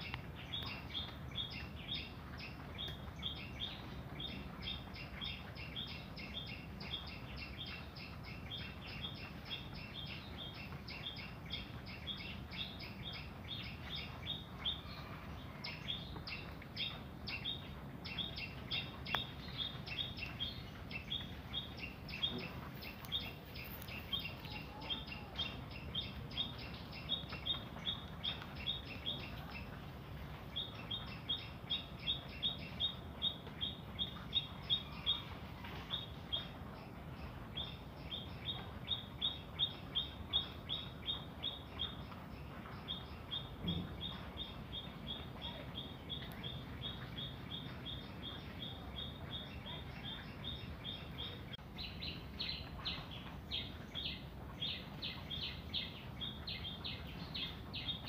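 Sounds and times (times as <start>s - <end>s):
small bird chirping: 0.0s - 58.0s.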